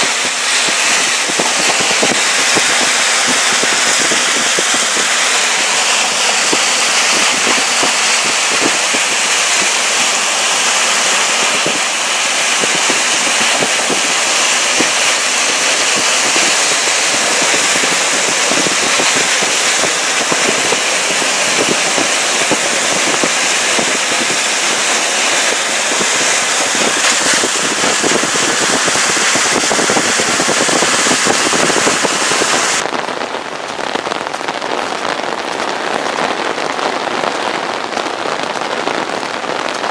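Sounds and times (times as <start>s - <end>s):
heavy rain on a vehicle: 0.0s - 39.9s
wet road hiss: 0.0s - 39.9s.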